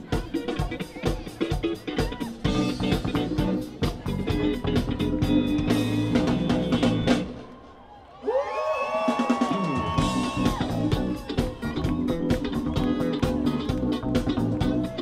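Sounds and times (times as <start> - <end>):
steady drum beat: 0.0 - 7.4, 9.1 - 15.0
bass guitar: 0.0 - 7.5, 9.6 - 15.0
electric guitar: 0.0 - 7.5, 9.5 - 15.0.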